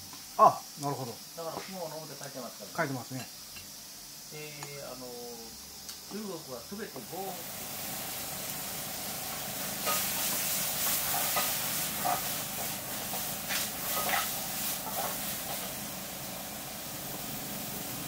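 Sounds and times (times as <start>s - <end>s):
food sizzling in frying: 0.0s - 18.0s.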